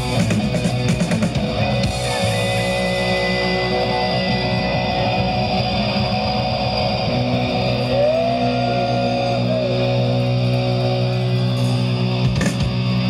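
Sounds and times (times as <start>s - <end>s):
rock band sustained chord: 0.0s - 13.0s
lead guitar note bending: 1.4s - 13.0s.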